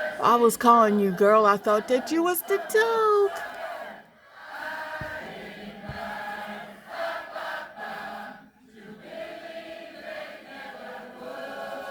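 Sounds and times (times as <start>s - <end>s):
choir singing: 0.0s - 11.9s.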